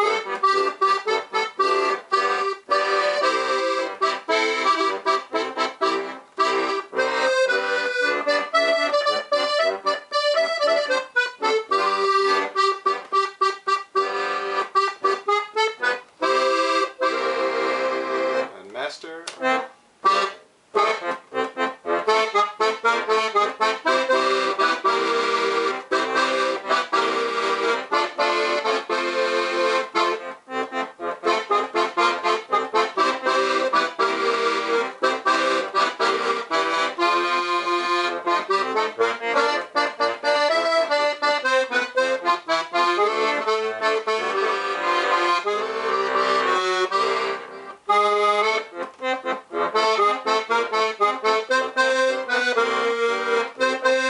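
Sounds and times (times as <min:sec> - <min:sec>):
accordion playing tune: 0:00.0 - 0:54.0.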